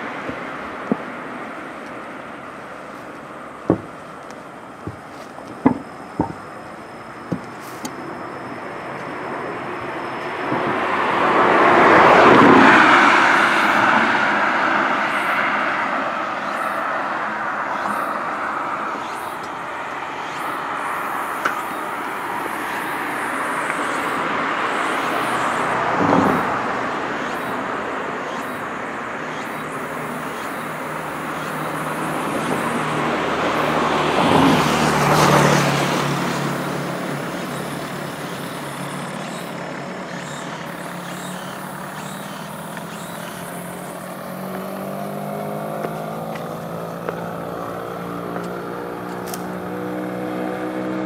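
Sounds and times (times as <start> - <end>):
steady traffic noise: 0.0 - 51.0
vehicle passing close by: 9.3 - 51.0.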